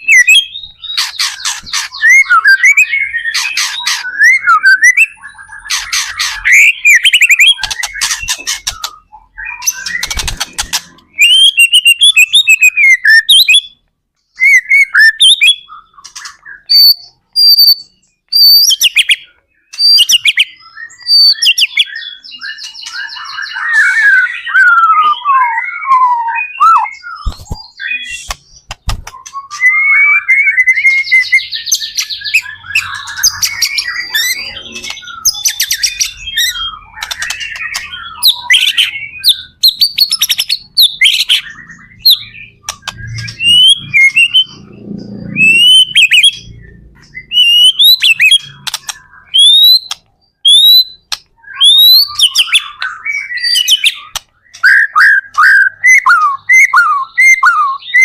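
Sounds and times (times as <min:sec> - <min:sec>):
songbird singing rich whistles: 0:00.0 - 0:58.0.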